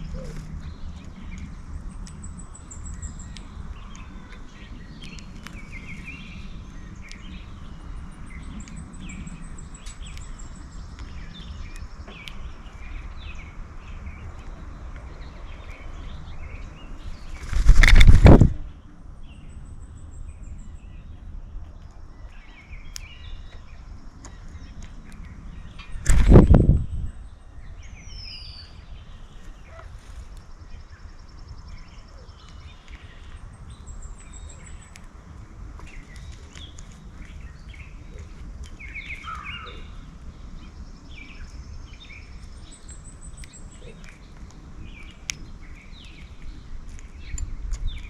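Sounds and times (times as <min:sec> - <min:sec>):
songbirds chirping: 0:00.0 - 0:48.0
steady low hum: 0:00.0 - 0:48.0.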